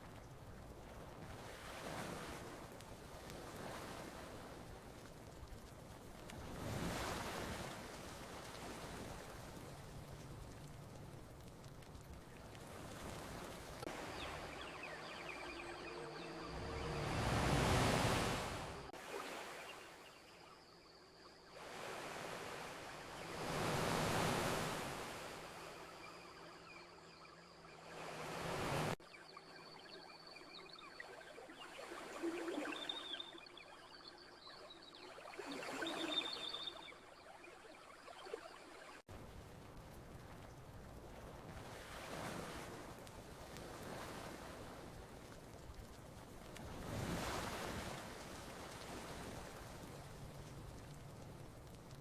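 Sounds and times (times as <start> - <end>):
faint campfire crackles: 0.0 - 52.0
ocean waves washing onto beach: 0.0 - 52.0.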